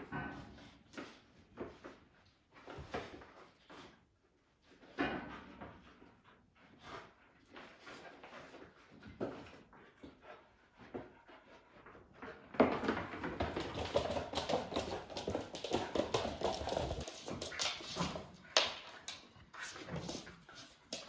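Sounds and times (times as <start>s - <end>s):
dogs playing: 0.1s - 21.0s.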